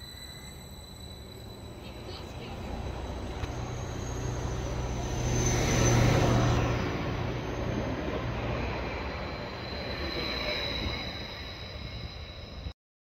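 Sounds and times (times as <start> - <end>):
passenger train passing: 0.0 - 12.8.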